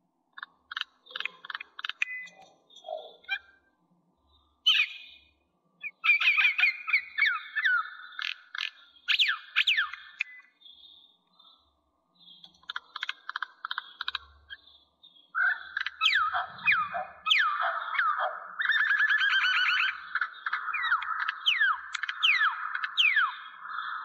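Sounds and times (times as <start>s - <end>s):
bird calls: 0.3s - 24.0s.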